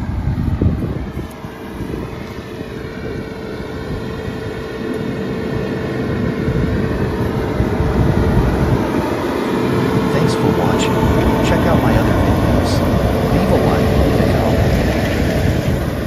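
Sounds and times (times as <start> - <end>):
baler whine: 0.0 - 16.0
tractor engine under load: 0.9 - 16.0.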